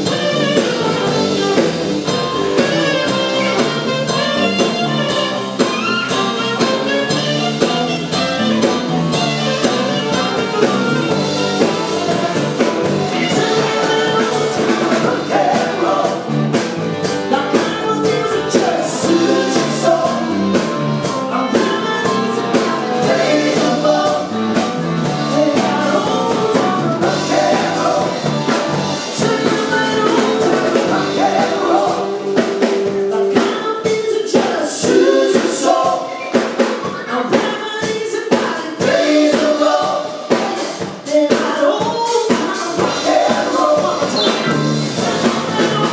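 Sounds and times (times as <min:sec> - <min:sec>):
person singing: 0:00.0 - 0:16.6, 0:17.3 - 0:45.9
live rock and roll band: 0:00.0 - 0:45.9.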